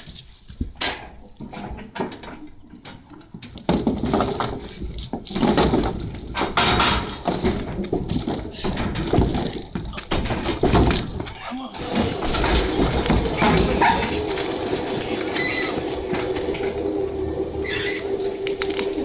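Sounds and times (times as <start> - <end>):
heavy chain rattling over logs: 0.0 - 19.0.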